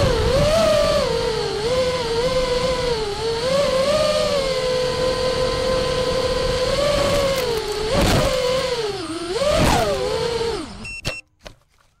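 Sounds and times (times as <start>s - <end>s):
quadcopter motors whining: 0.0s - 11.2s.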